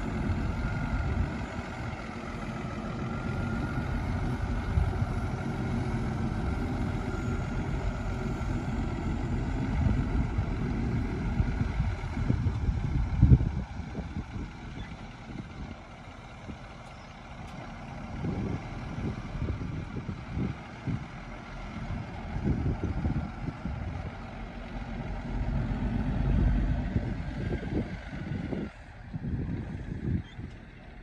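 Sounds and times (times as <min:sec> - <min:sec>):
heavy diesel machines working: 0:00.0 - 0:31.0.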